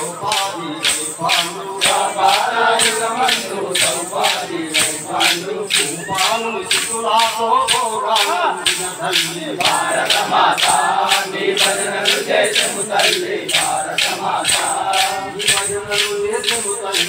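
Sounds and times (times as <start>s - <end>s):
men singing in chorus: 0.0s - 17.0s
wooden hand clappers jingling: 0.0s - 17.0s.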